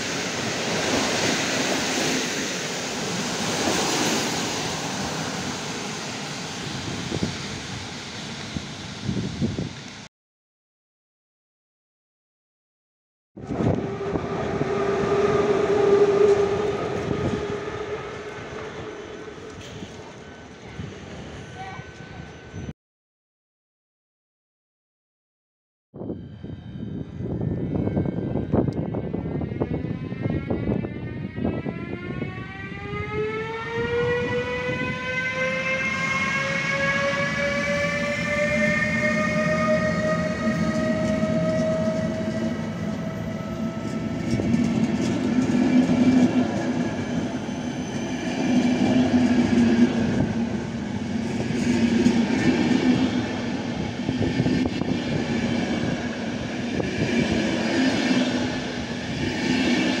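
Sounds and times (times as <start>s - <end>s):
electric locomotive whine: 0.0s - 10.1s, 13.4s - 22.7s, 26.0s - 60.0s
train coaches rumbling past: 0.0s - 10.1s, 13.4s - 22.7s, 26.0s - 60.0s.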